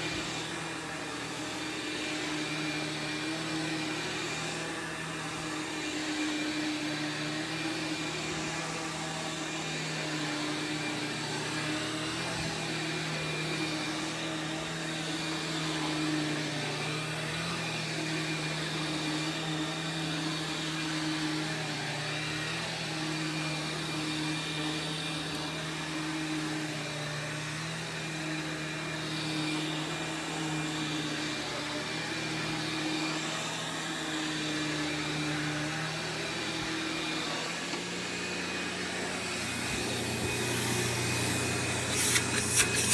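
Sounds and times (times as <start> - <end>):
vacuum cleaner motor running: 0.0 - 42.9.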